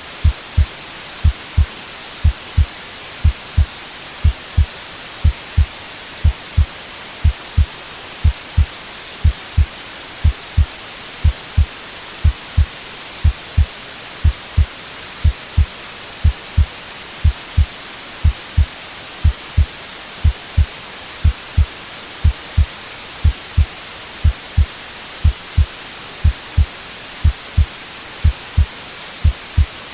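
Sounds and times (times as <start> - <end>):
white noise hiss: 0.0 - 29.9
heartbeat thumps: 0.2 - 29.8.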